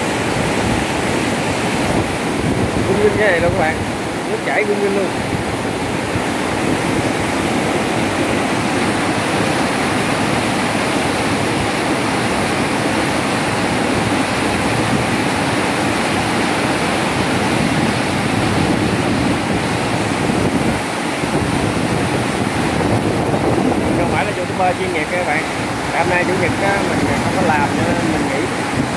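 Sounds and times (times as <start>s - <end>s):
water rushing through sluice gate: 0.0s - 28.9s.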